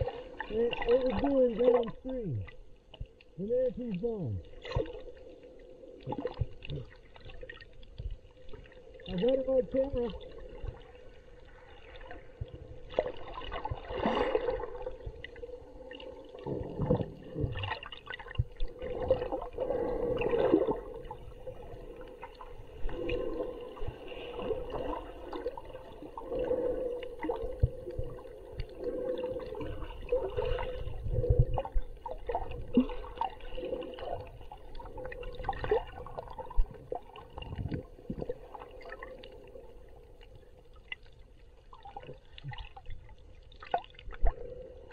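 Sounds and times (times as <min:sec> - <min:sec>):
splashes and bubbles: 0:00.0 - 0:44.9
underwater sloshing and gurgling: 0:00.0 - 0:44.9.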